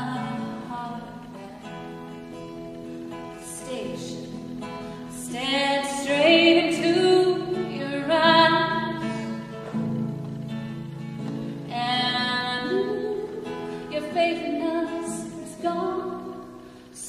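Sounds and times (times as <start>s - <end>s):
woman singing: 0.0s - 1.9s, 3.2s - 9.6s, 11.6s - 17.0s.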